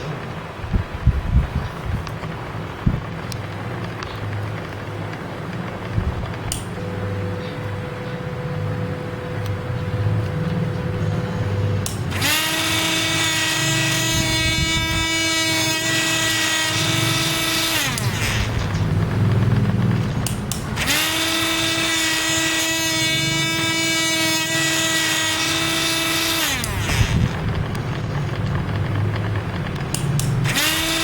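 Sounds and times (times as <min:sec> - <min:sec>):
loud steady whine: 0:00.0 - 0:31.0
drilling machine throbbing: 0:05.7 - 0:31.0.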